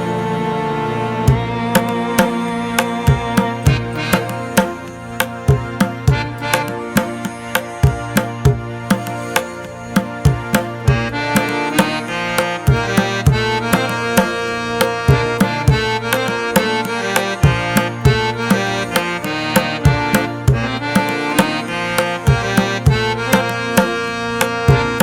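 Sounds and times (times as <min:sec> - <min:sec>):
hand drum beat: 0:01.3 - 0:23.9, 0:24.7 - 0:25.0.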